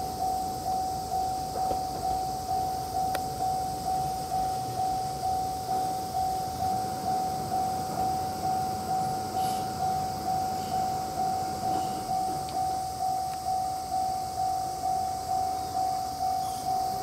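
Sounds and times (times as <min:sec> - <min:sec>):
level crossing bell ringing: 0:00.0 - 0:17.0.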